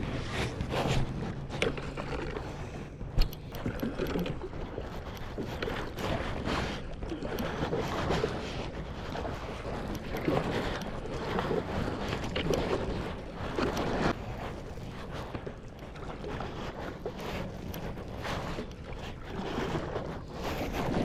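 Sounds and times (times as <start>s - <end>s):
flowing river water: 0.0s - 21.0s
wind noise: 0.0s - 21.0s.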